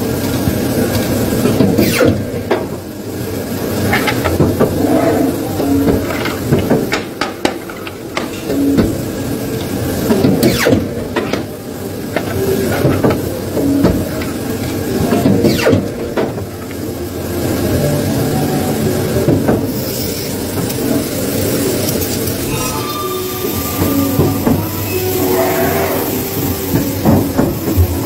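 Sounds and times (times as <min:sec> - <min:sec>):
paper cutter machine hum: 0:00.0 - 0:28.0.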